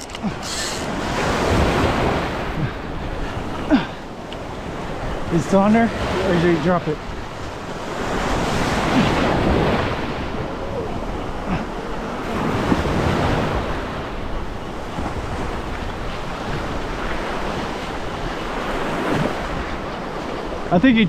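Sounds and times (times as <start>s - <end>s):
ocean surf on a beach: 0.0s - 21.0s
wind buffeting microphone: 0.2s - 20.1s.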